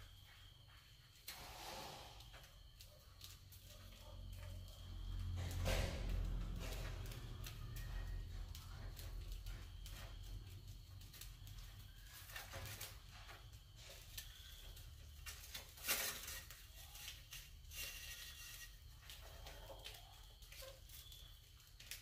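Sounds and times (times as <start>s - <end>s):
rats scratching and rustling: 0.2s - 22.0s
sharp crackle: 1.3s - 22.0s.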